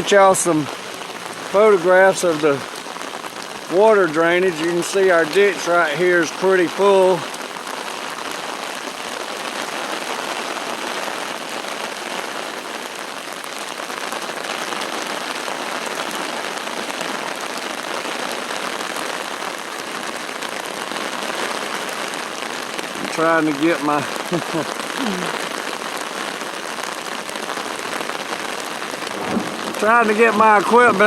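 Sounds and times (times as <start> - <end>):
rain on an umbrella: 0.0 - 31.0.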